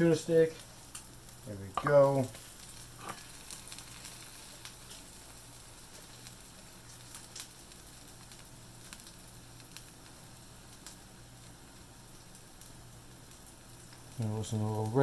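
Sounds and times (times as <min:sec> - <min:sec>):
fish steak sizzling in a pan: 0:00.0 - 0:15.0.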